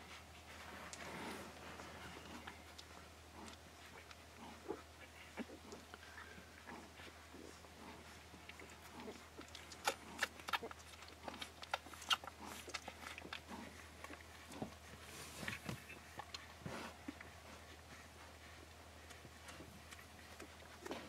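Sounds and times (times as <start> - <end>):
puppies suckling wetly: 0.0 - 21.0
faint low puppy grunts: 0.9 - 21.0.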